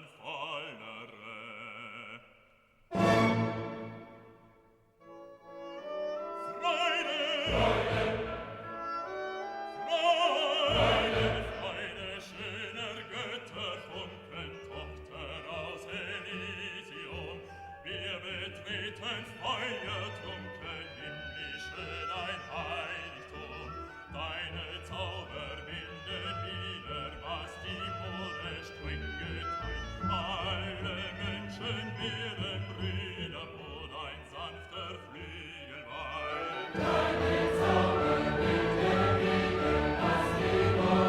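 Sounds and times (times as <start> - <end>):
classical operatic music: 0.0 - 41.0.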